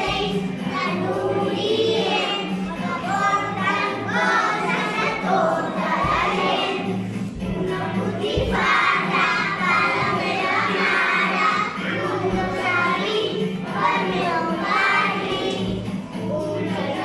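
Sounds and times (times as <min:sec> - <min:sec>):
recorded backing music: 0:00.0 - 0:17.0
young children singing: 0:00.0 - 0:17.0.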